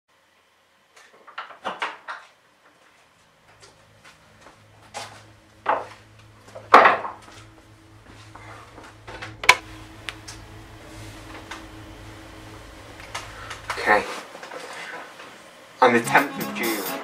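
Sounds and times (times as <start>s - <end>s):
steady low hum: 2.5s - 16.7s.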